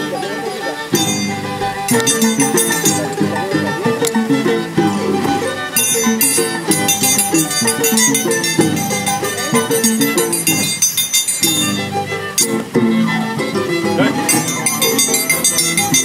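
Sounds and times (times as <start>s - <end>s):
harp: 0.0s - 16.0s
violin: 0.0s - 16.0s.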